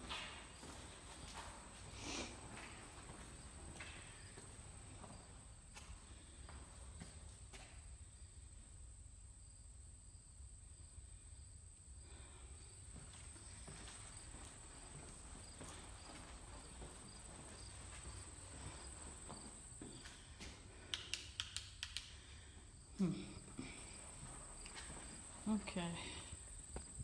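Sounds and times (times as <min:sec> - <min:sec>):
quiet footsteps: 0:00.0 - 0:08.0, 0:12.1 - 0:27.0.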